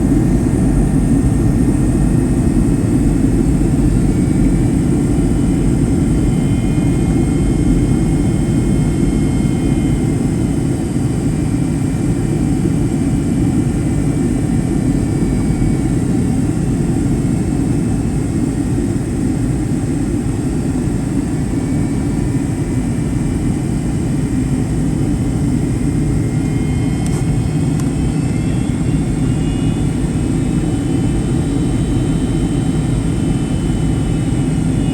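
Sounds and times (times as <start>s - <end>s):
airplane cabin roar: 0.0s - 34.9s
faint high whine: 0.0s - 34.9s.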